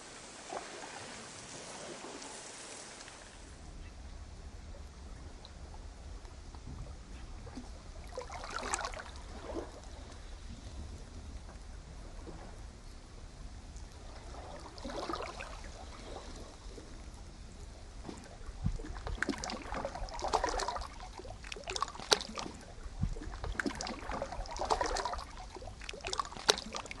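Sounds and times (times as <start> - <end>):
small waves lapping at shoreline: 0.0 - 27.0.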